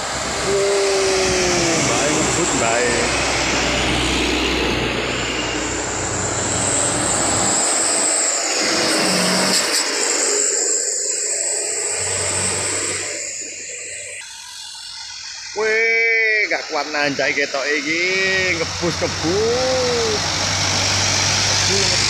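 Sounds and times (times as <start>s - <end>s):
diesel truck engines passing: 0.0s - 10.9s, 11.6s - 22.0s.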